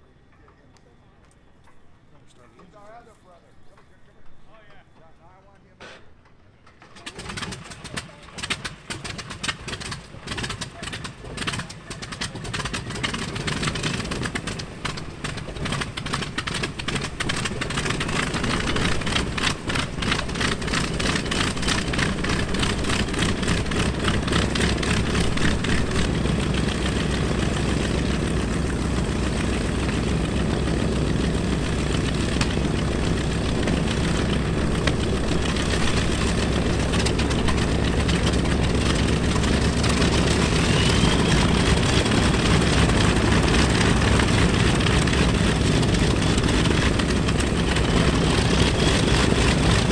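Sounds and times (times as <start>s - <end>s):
radial aircraft engines idling: 0.0s - 49.9s.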